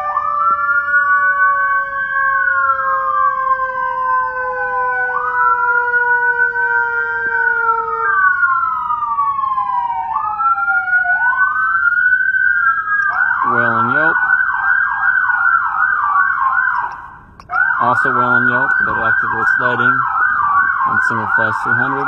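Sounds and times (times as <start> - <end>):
electronic siren wailing: 0.0 - 22.0
mechanical siren tone: 0.0 - 22.0.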